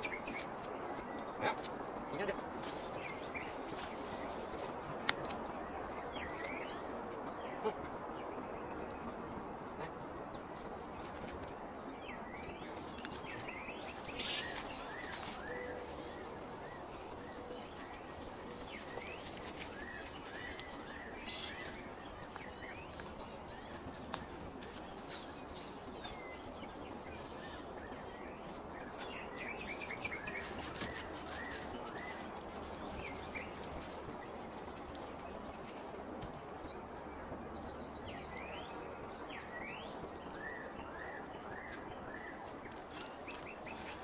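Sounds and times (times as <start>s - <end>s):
steady background hiss: 0.0s - 44.0s
small birds chirping: 6.1s - 44.0s.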